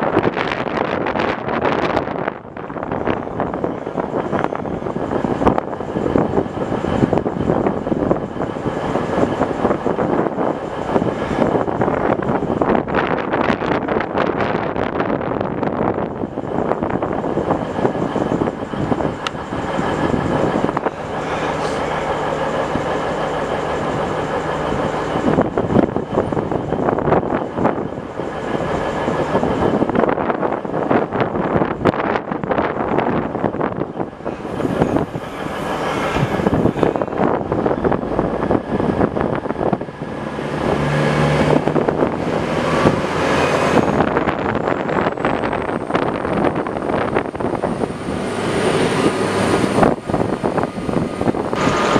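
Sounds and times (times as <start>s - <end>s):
low engine drone: 0.0s - 51.9s
train rumbling on track: 0.0s - 51.9s.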